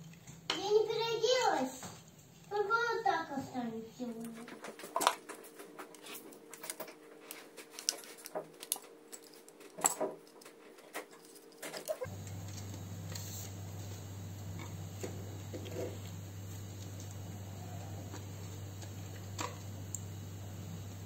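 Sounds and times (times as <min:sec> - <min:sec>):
steady low hum: 0:01.9 - 0:21.0.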